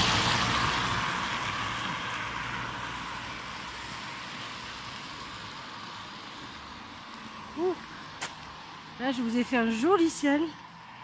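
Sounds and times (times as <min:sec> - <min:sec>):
vehicle driving away: 0:00.0 - 0:09.0.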